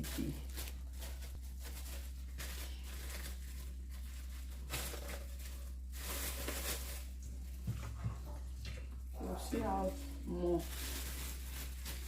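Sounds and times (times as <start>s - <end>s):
plastic bags rustling: 0.0s - 12.0s.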